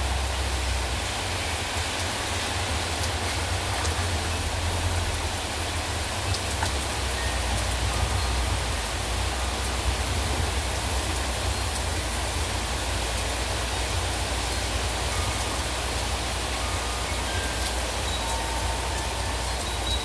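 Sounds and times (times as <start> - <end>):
heavy rain falling: 0.0 - 20.0
gusting wind rumble: 0.2 - 20.0.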